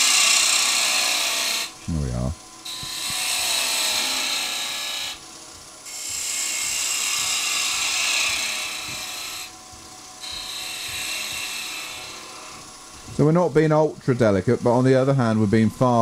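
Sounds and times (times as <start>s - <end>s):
wood lathe cutting hiss: 0.0s - 16.0s.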